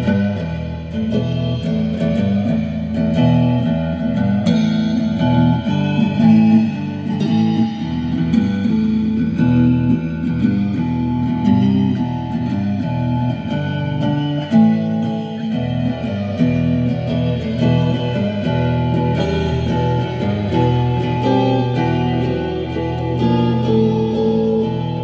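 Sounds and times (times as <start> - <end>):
guitar improvising: 0.0 - 25.0.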